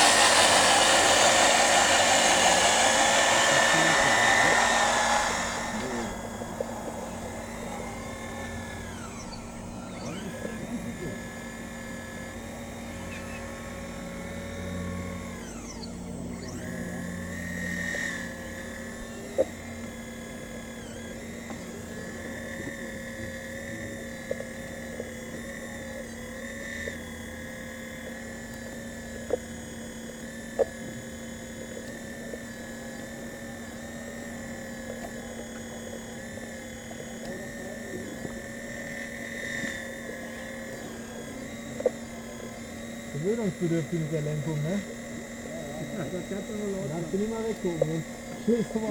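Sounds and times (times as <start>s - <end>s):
hydraulic pump whine: 0.0s - 48.9s.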